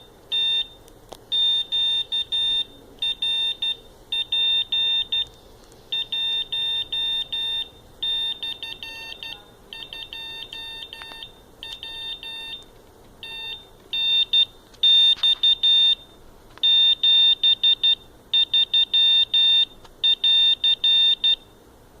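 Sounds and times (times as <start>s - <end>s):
morse code beeps: 0.0s - 5.3s, 5.9s - 21.5s.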